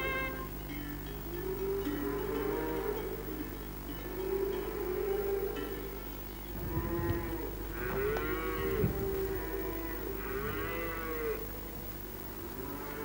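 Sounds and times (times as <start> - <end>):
cows mooing: 0.0 - 0.6, 1.3 - 11.5, 12.5 - 13.0.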